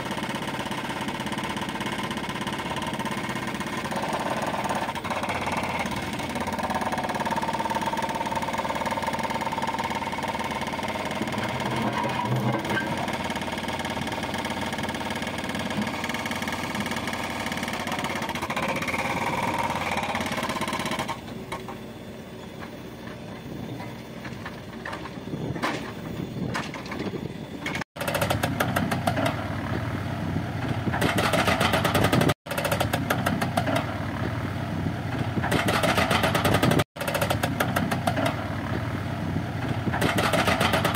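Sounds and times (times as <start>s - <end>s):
clatter of digging machines: 0.0s - 40.9s
diesel engines running: 0.0s - 40.9s.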